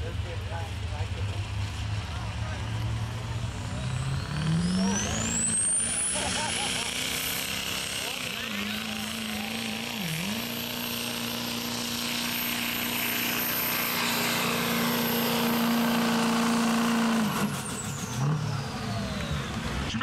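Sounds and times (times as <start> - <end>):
truck engine at full throttle: 0.0 - 20.0.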